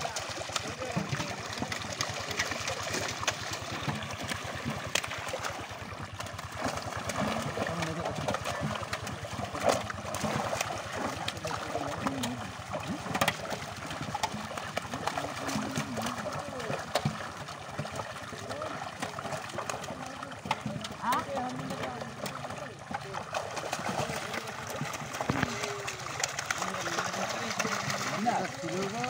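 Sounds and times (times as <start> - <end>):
fish splashing in net: 0.0 - 29.0.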